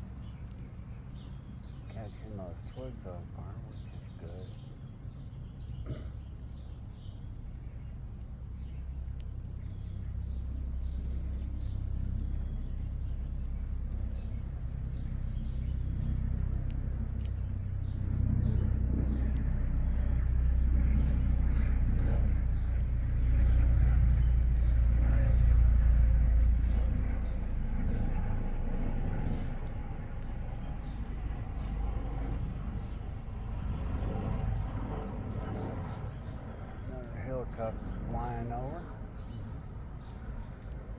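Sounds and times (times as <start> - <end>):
helicopter rumble: 0.0 - 40.9.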